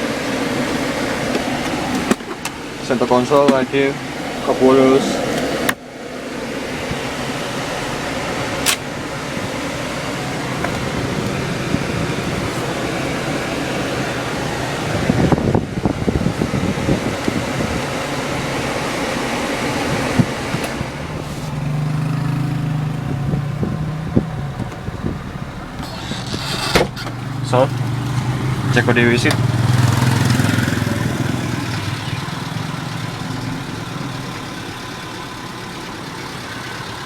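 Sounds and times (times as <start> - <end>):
car blower fan running: 0.0 - 37.0.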